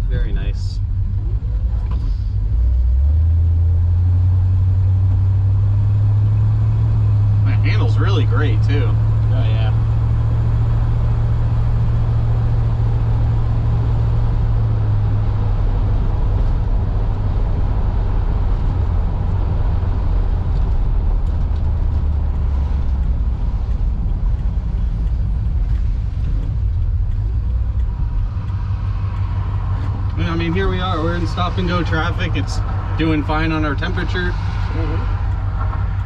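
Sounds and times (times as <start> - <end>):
car engine running: 0.0 - 36.0
road noise: 0.0 - 36.0.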